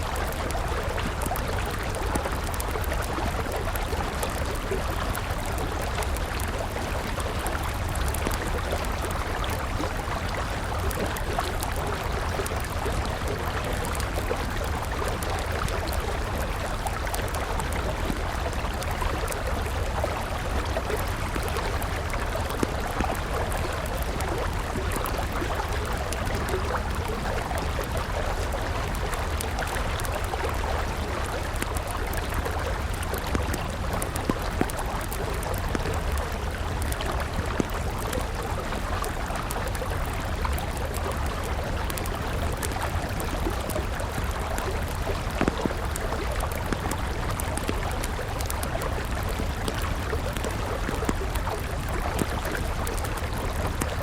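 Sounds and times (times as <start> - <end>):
campfire crackling: 0.0 - 54.0
river flowing: 0.0 - 54.0.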